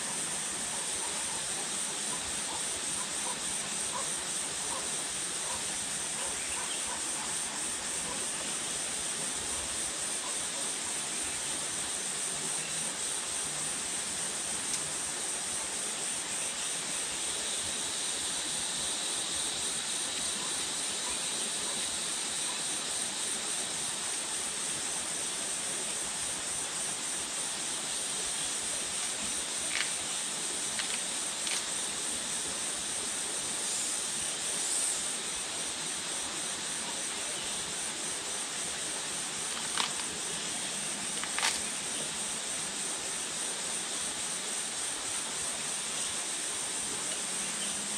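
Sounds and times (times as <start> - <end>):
constant hiss: 0.0 - 47.9
insect drone: 0.0 - 47.9.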